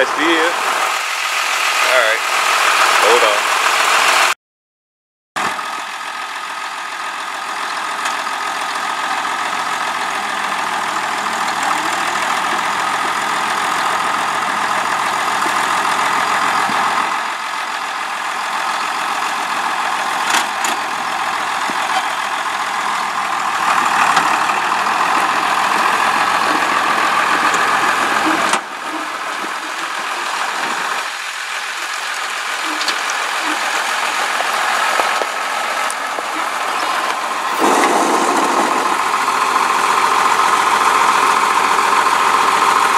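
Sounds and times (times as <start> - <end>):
tractor engine running: 0.0 - 4.3, 5.4 - 42.9.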